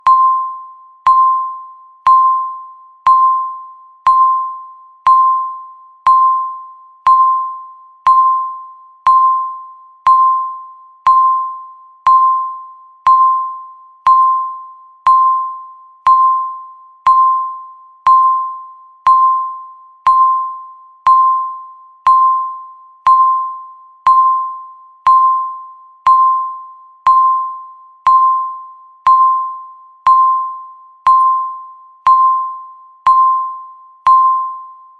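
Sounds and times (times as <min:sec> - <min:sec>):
countdown timer beeping: 0:00.0 - 0:34.8.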